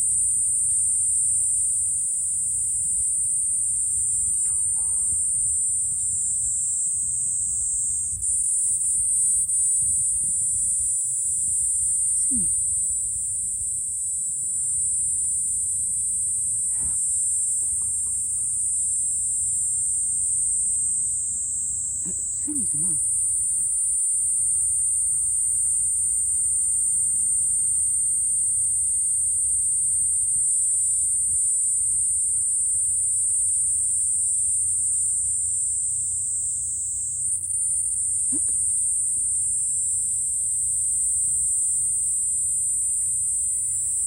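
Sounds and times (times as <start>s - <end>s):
high-pitched insect drone: 0.0s - 44.0s.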